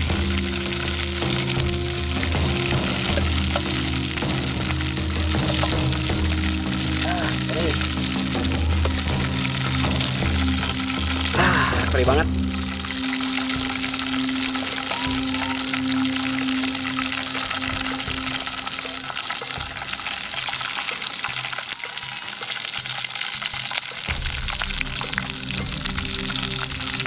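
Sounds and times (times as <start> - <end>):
garlic sizzling in hot oil: 0.0 - 27.0.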